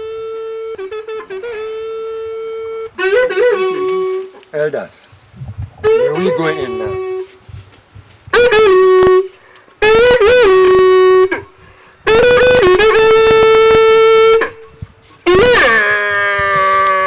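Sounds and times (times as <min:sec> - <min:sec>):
horn-like wind instrument notes: 0:00.0 - 0:04.4, 0:05.8 - 0:07.4, 0:08.3 - 0:17.0.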